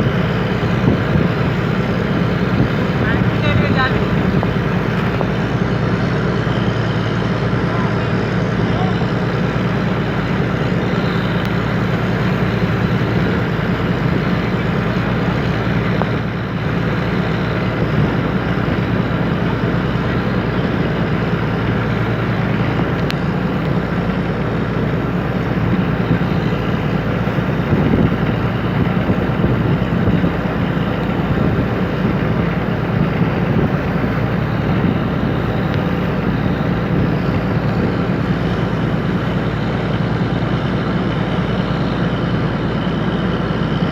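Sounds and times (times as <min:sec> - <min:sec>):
wind noise on microphone: 0:00.0 - 0:06.0, 0:09.6 - 0:40.3
boat engine running: 0:00.0 - 0:43.9.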